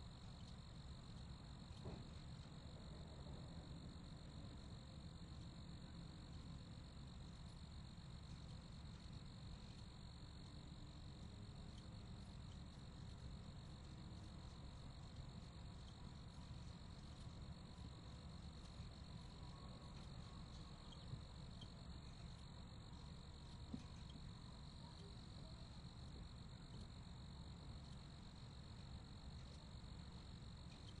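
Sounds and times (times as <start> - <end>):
crickets chirping: 0.0 - 31.0
low background rumble: 0.0 - 31.0.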